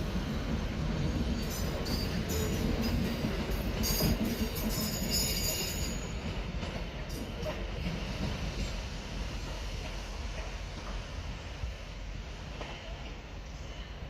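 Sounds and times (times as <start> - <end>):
train rumbling on tracks: 0.0 - 14.0.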